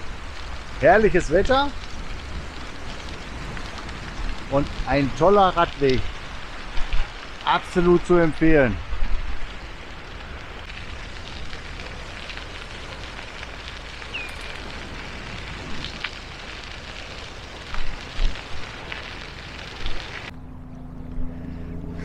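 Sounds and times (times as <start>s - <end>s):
bicycle tyres crunching on gravel: 0.0s - 20.3s
wind rushing over microphone: 0.0s - 20.3s.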